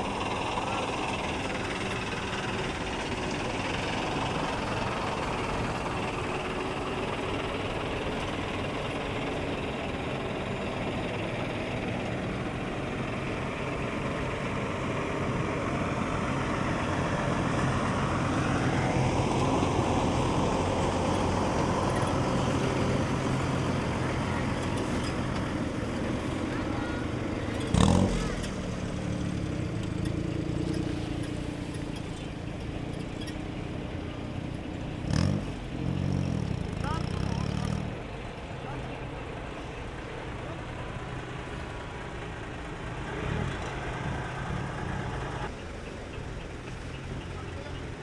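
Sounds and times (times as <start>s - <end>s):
truck diesel engines humming: 0.0s - 48.0s.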